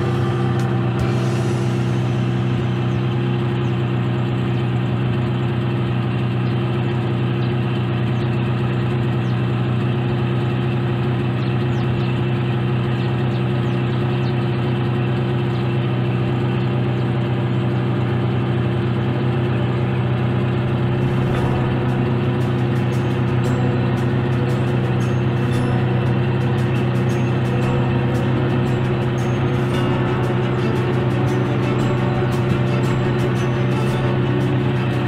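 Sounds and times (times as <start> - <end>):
motorboat engine humming: 0.0 - 35.0.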